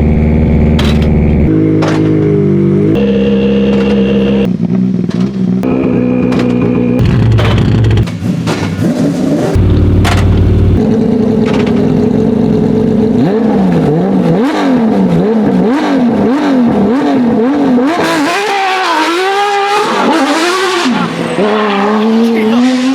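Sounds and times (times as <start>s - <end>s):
car engine idling and revving: 0.0s - 22.9s.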